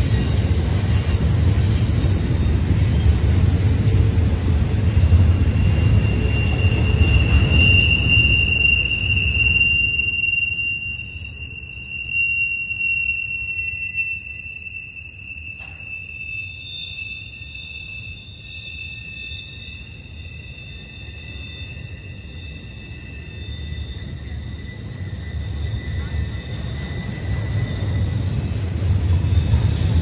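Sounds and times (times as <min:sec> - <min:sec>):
rumble of rolling train cars: 0:00.0 - 0:30.0
train wheels squealing on rail: 0:00.0 - 0:30.0.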